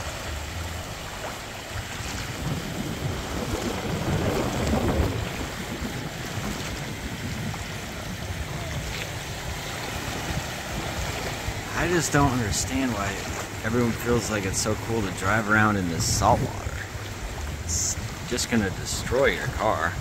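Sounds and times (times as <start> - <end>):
floodwater sloshing and splashing: 0.0 - 20.0
wind buffeting microphone: 0.0 - 20.0.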